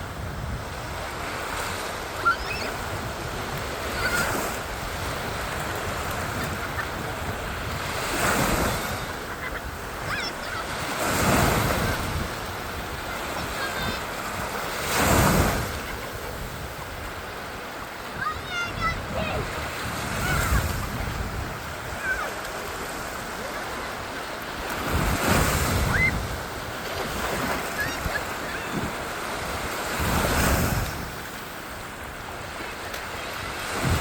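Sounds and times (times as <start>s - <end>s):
wind rumble on microphone: 0.0s - 1.5s, 2.1s - 10.2s, 11.0s - 17.3s, 18.5s - 22.2s, 24.7s - 32.1s, 33.1s - 34.0s
waves washing on beach: 0.0s - 34.0s.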